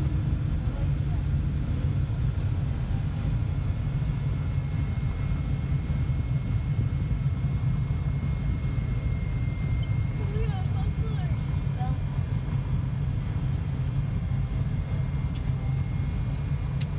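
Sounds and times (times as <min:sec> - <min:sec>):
aircraft engines droning: 0:00.0 - 0:16.9.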